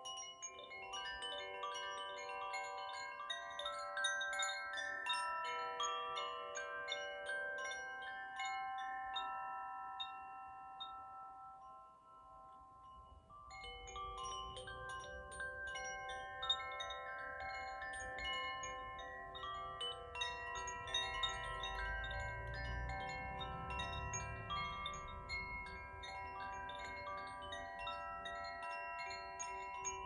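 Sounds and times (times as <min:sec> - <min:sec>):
wind chimes ringing: 0:00.0 - 0:30.0.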